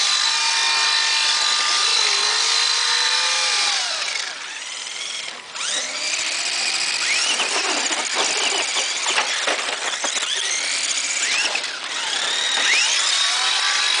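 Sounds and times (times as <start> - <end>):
toy truck electric motors whining: 0.0 - 14.0.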